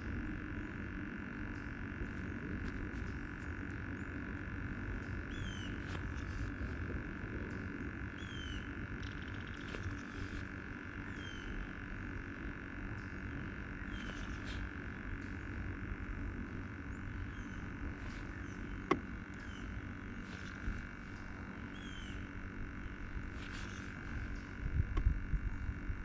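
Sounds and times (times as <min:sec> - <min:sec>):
steady high hum: 0:00.0 - 0:26.0.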